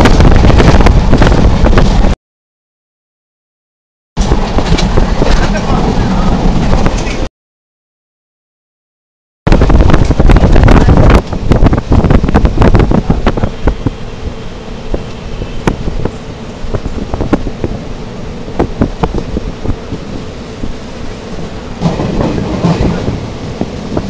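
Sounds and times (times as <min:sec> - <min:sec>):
train rumbling and rattling: 0:00.0 - 0:02.2, 0:04.2 - 0:07.3, 0:09.5 - 0:24.0
wind buffeting microphone: 0:00.0 - 0:02.2, 0:04.2 - 0:07.3, 0:09.5 - 0:24.0.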